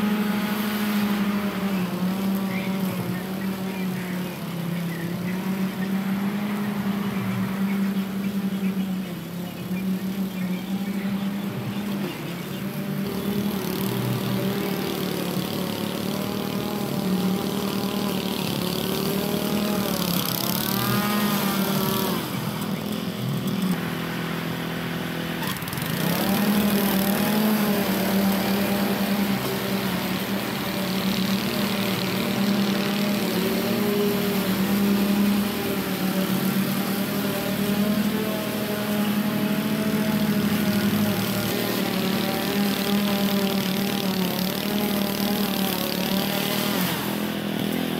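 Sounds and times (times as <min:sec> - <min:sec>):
lawn mower engine running: 0:00.0 - 0:47.9.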